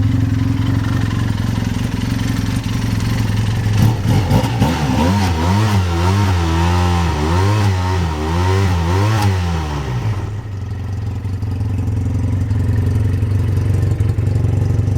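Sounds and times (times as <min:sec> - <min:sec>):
snowmobile engine revving and idling: 0:00.0 - 0:14.9.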